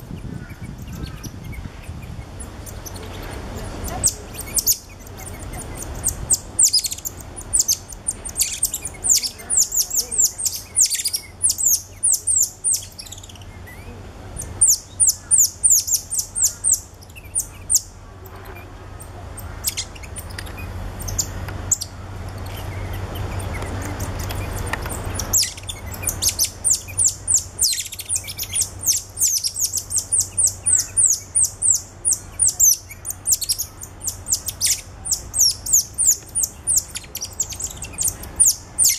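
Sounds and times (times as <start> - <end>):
monkeys chirping: 0.0 - 38.9.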